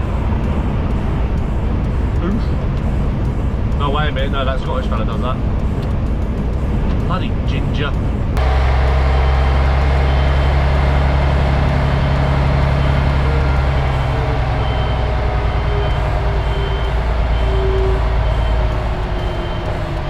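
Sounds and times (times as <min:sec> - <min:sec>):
diesel truck engine drone: 0:00.0 - 0:20.0.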